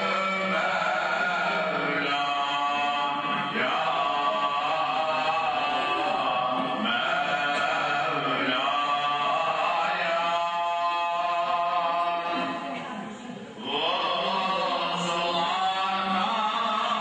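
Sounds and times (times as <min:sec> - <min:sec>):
man chanting melodic recitation: 0:00.0 - 0:12.4, 0:13.6 - 0:17.0.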